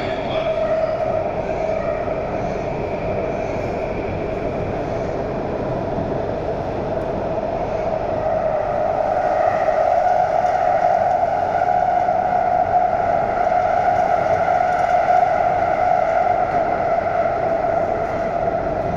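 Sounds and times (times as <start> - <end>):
train rumble and hiss: 0.0 - 18.9.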